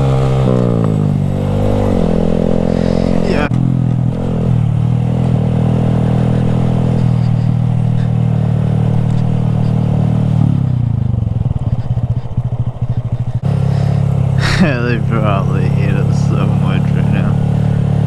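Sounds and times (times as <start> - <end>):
motorcycle engine running and idling: 0.0 - 18.0.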